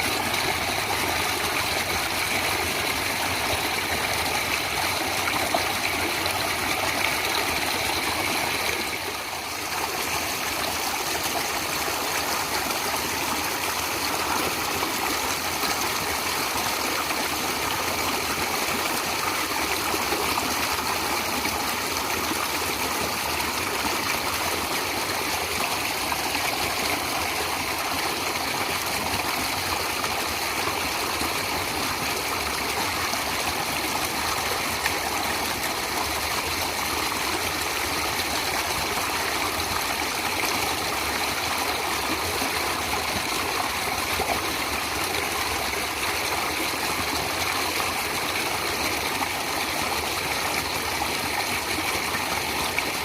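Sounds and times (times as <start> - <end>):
stream burbling over rocks: 0.0 - 53.0.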